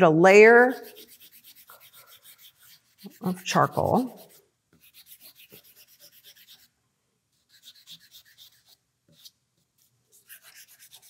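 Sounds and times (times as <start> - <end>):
charcoal scribbling on paper: 0.5 - 6.7, 7.3 - 11.0.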